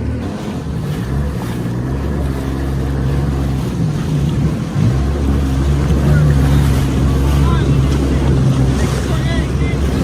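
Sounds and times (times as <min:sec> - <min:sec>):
watercraft engine running: 0:00.0 - 0:10.0.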